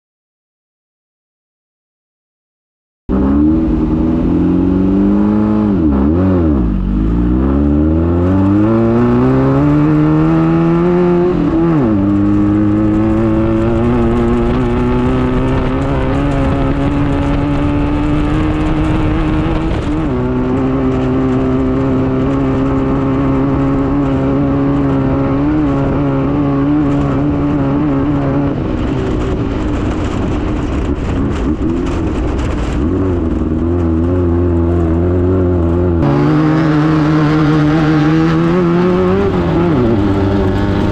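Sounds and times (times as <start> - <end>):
buggy engine running hard: 3.1 - 40.9.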